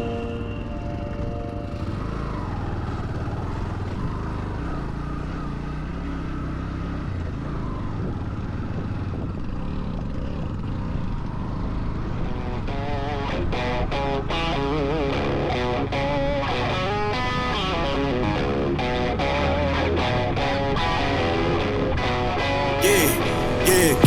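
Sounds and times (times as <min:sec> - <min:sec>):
motorcycle engine rumbling: 0:00.0 - 0:19.4.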